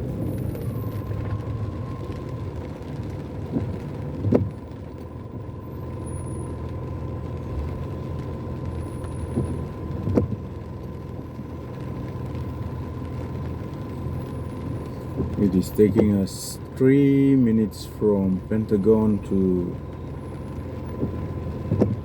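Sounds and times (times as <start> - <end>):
car rumbling in traffic: 0.0 - 22.0.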